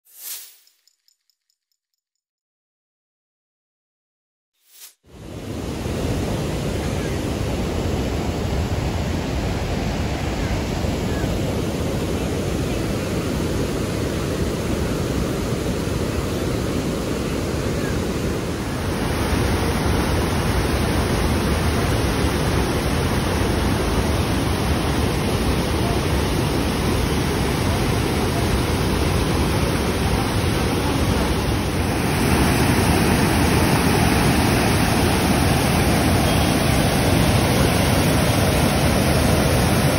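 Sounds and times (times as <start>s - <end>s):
water rushing through dam spillway: 5.2s - 39.9s.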